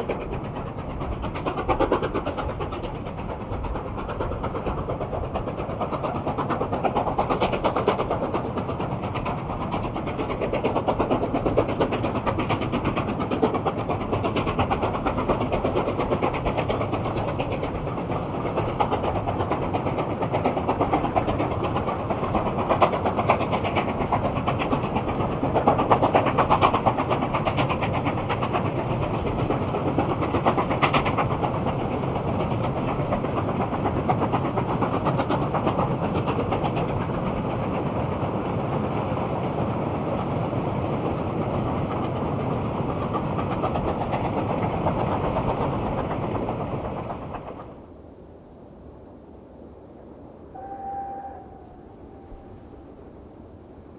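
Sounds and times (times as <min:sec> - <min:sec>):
steam locomotive exhaust beats: 0:00.0 - 0:48.0, 0:49.9 - 0:53.9
wheel and rail noise: 0:00.0 - 0:53.9.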